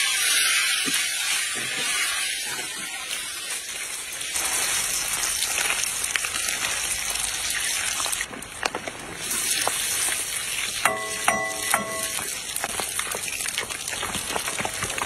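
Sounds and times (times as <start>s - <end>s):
sugar syrup boiling and sizzling: 0.0s - 15.0s.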